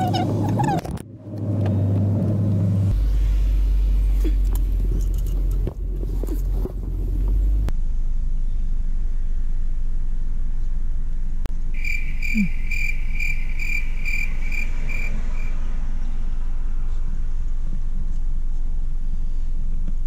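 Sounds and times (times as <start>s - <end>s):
car idling hum: 0.0s - 20.0s.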